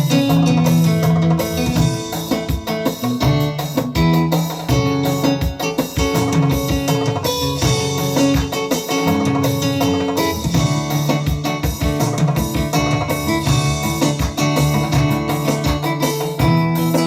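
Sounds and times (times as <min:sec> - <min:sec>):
live band over sound system: 0:00.0 - 0:17.0.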